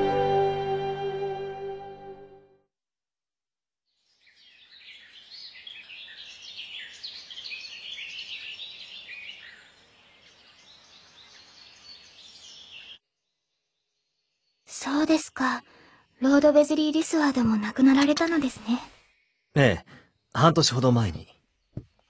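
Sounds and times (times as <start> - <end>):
birds chirping: 4.1 - 22.0.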